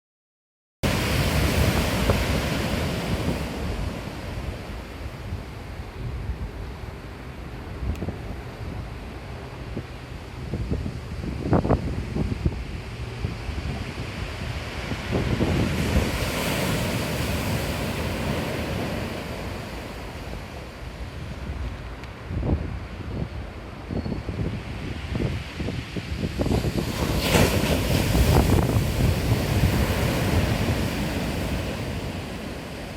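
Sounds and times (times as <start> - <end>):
wave breaking and washing out: 0.8 - 9.7, 11.0 - 22.3, 24.5 - 32.9
wind buffeting microphone: 0.9 - 32.9.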